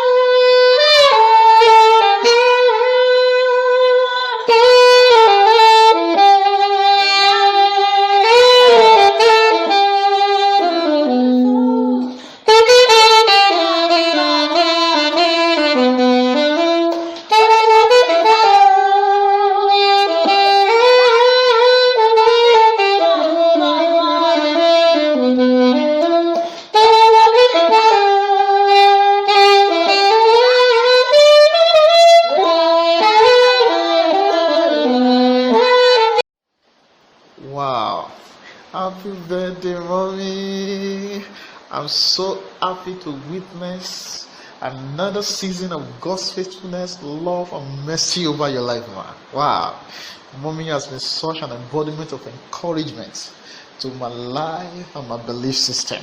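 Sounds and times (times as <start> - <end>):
solo saxophone melody: 0.0 - 36.3, 37.7 - 48.2.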